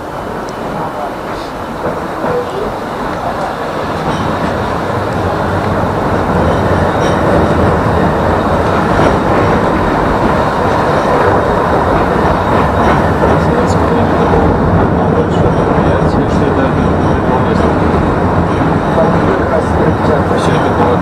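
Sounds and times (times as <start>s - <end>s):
tram rolling on rails: 0.0s - 21.0s.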